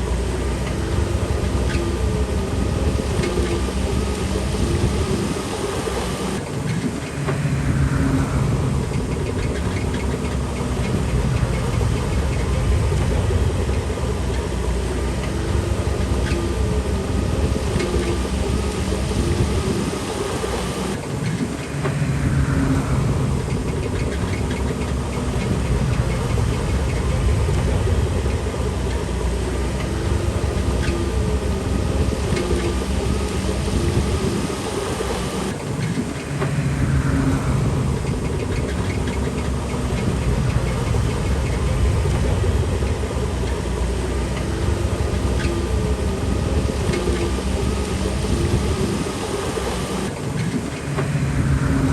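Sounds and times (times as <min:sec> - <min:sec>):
bulldozer diesel engine clattering: 0:00.0 - 0:51.9.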